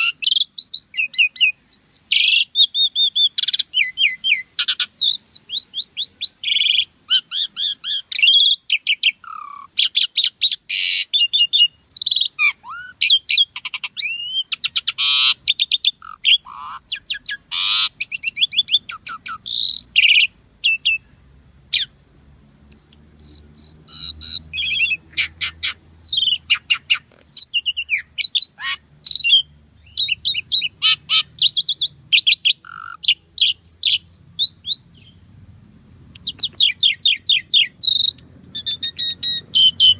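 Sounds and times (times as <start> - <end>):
starling singing: 0.0 - 21.1, 21.7 - 22.0, 22.7 - 35.3, 36.2 - 39.9.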